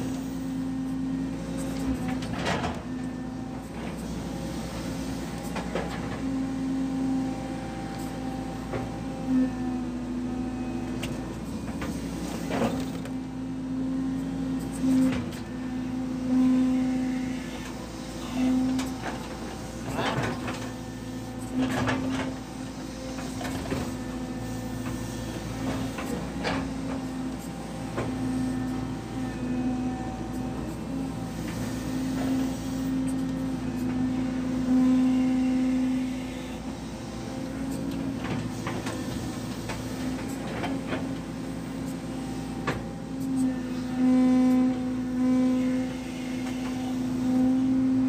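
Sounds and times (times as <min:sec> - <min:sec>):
excavator engine and hydraulics: 0:00.0 - 0:48.0.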